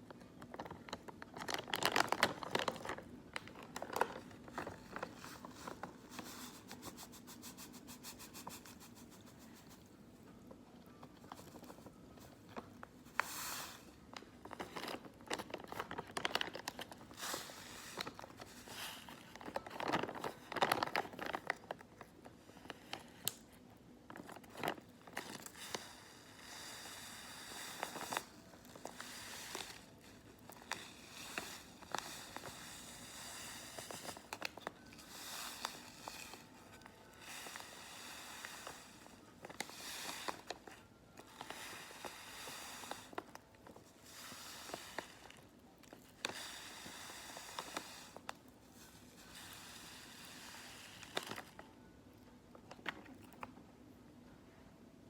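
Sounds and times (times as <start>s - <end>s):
crinkly material rustling: 0.0s - 49.6s.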